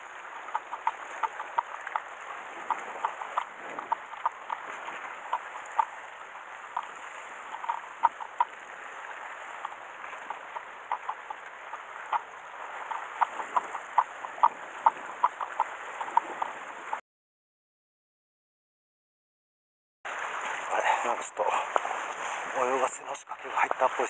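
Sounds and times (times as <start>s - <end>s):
sea water washing on rocks: 0.0s - 17.0s, 20.1s - 24.0s.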